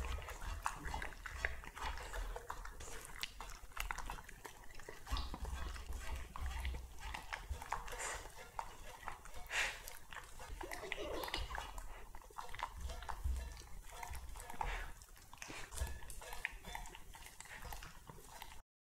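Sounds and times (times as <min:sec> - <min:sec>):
dogs licking and chomping food: 0:00.0 - 0:18.6.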